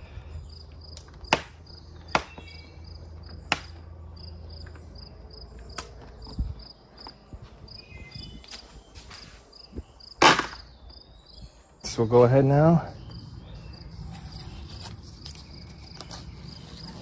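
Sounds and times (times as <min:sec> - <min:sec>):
insect chirping: 0:00.0 - 0:11.8, 0:12.9 - 0:17.0.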